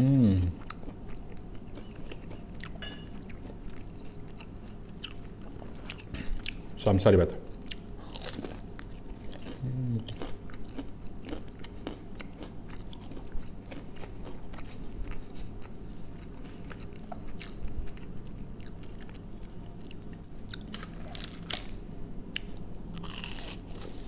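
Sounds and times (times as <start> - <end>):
crunchy chewing of fried food: 0.6 - 6.7, 7.4 - 24.0.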